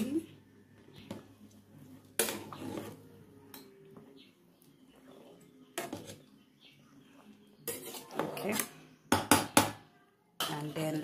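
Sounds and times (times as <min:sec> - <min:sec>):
spoon stirring soup: 0:00.2 - 0:11.0.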